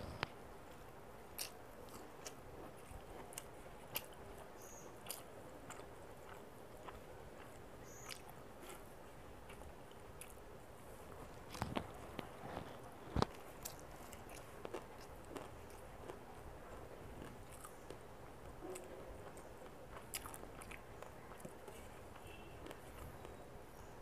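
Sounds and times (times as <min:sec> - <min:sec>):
person chewing: 0:00.0 - 0:10.4, 0:11.0 - 0:18.1, 0:18.7 - 0:23.4.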